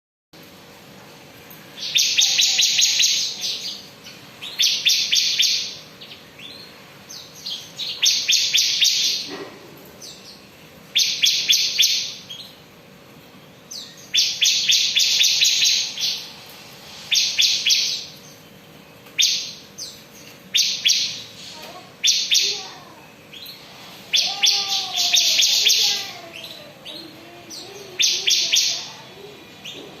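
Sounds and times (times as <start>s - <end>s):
bird buzzy trilling song: 1.6s - 12.7s, 13.3s - 30.0s.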